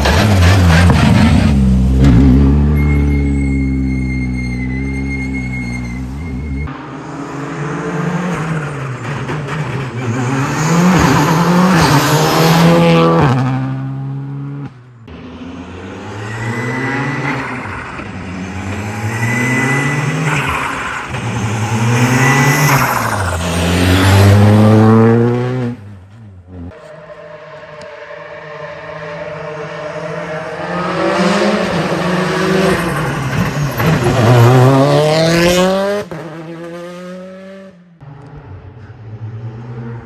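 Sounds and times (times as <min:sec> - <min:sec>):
rally car engine revving: 0:00.0 - 0:27.5, 0:28.7 - 0:40.0.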